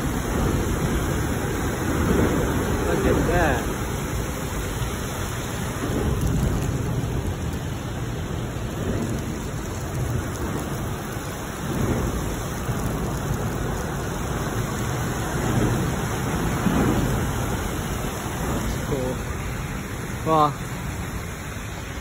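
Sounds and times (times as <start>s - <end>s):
low rumble under bridge: 0.0s - 22.0s
rain-like hiss: 0.0s - 22.0s.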